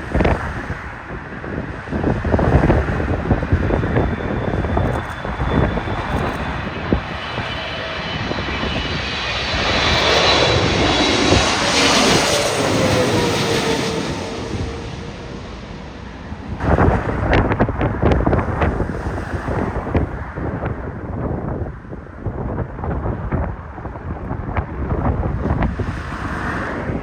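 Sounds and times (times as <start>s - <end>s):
jet engine whine: 0.0s - 27.0s
wind buffeting microphone: 0.0s - 27.0s.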